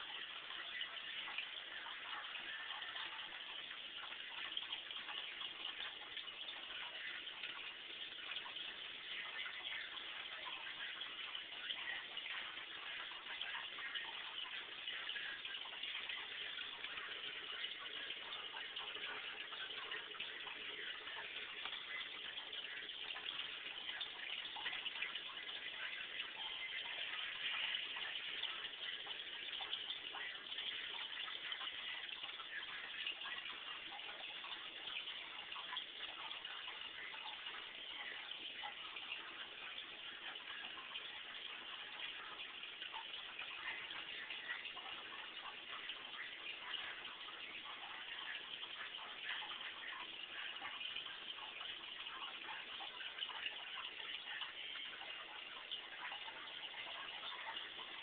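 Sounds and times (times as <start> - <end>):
aquarium water trickling and bubbling: 0.0 - 58.0
small ticks and splashes: 0.0 - 58.0.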